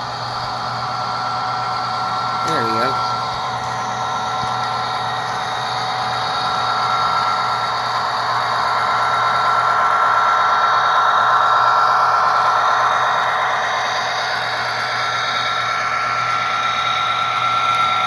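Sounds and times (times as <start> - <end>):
diesel engine sound from small speaker: 0.0 - 18.0
thin held whine: 0.0 - 18.0
whir of model train motor: 0.0 - 18.0.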